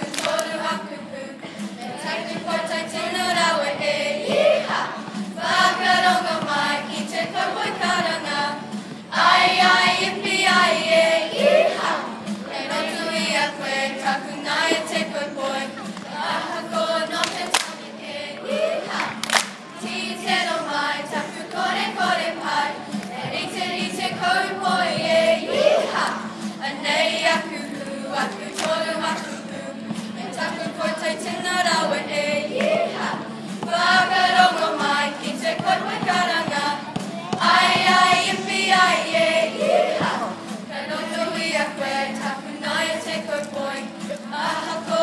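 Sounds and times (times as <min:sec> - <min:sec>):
children singing and chanting: 0:00.0 - 0:45.0.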